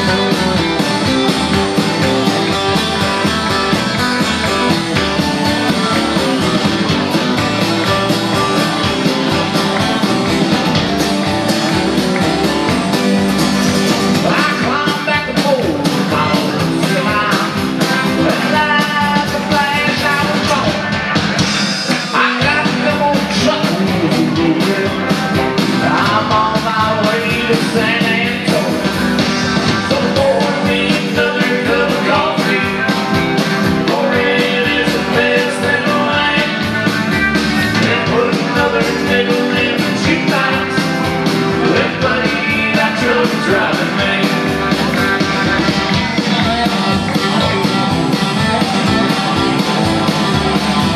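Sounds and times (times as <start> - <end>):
electric guitar: 0.0 - 50.9
live rock band playing: 0.0 - 50.9
steady drum beat: 0.0 - 50.9.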